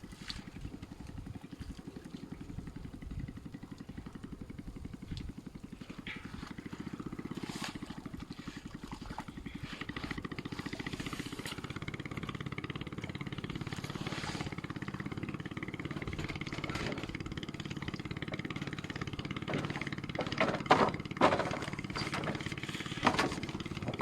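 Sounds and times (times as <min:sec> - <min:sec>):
small engine pulsing: 0:00.0 - 0:24.0.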